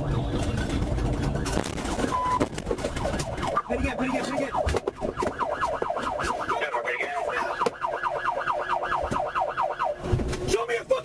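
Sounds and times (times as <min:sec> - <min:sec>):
police siren yelping: 0:00.0 - 0:10.1.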